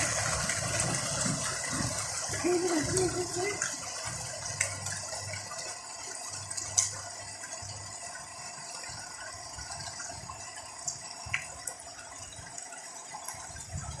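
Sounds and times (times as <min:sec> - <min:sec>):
heavy rain: 0:00.0 - 0:11.7.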